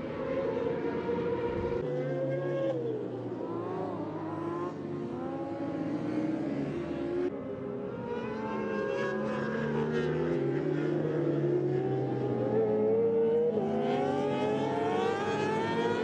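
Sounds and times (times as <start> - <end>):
racing motorcycle engines revving: 0.0 - 16.0.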